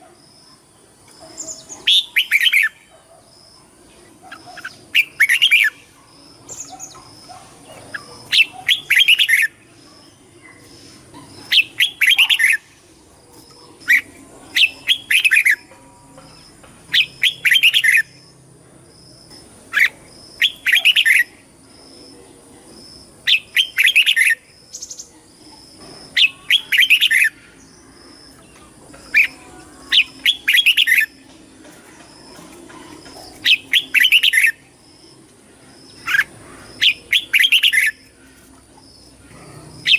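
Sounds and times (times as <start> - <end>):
bird singing warbled phrases: 0.0 - 18.3, 19.2 - 22.4, 23.1 - 39.9.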